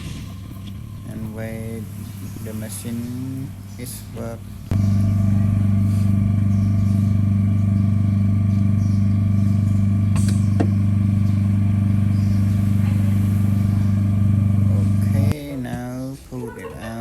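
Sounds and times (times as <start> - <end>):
laminating machine humming: 0.0 - 15.9.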